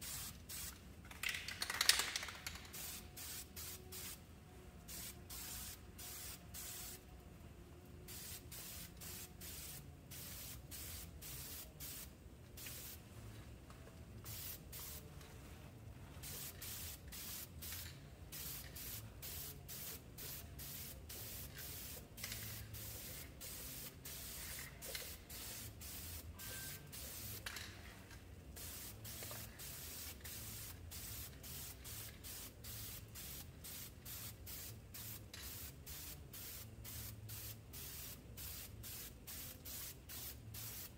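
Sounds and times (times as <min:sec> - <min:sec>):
spray can hissing bursts: 0:00.0 - 0:00.8, 0:01.7 - 0:04.2, 0:04.9 - 0:07.0, 0:08.1 - 0:13.0, 0:14.3 - 0:15.0, 0:16.2 - 0:27.6, 0:28.5 - 0:40.9.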